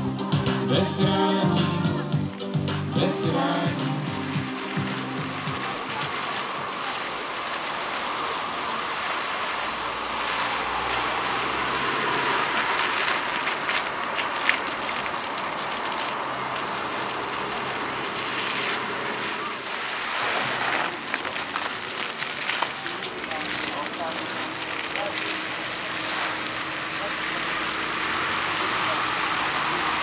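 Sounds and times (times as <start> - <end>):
fountain splashing onto water: 0.0 - 30.0.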